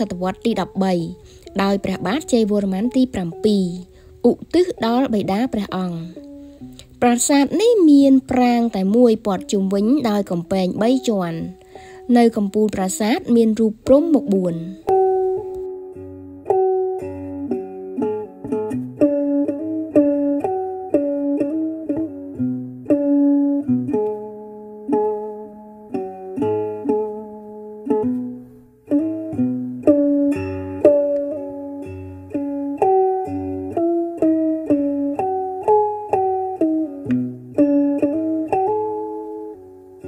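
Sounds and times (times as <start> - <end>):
plucked string melody: 0.0 - 40.0.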